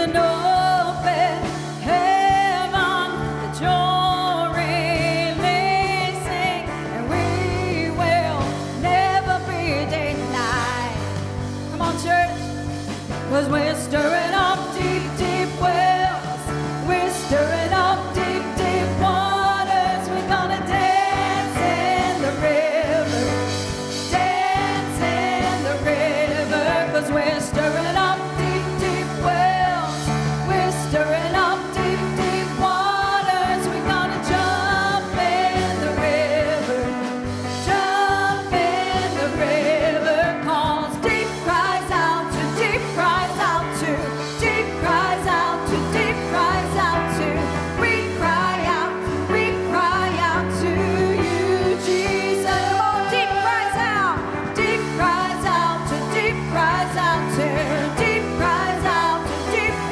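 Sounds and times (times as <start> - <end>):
church band playing: 0.0 - 59.9.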